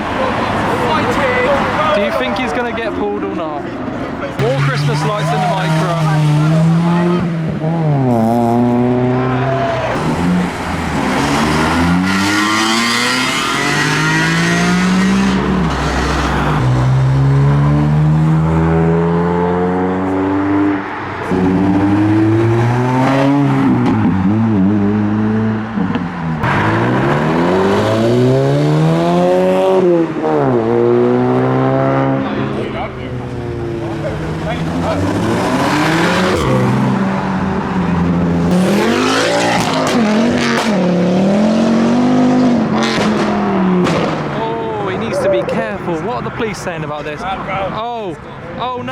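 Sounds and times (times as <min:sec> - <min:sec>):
car engines revving hard: 0:00.0 - 0:48.9.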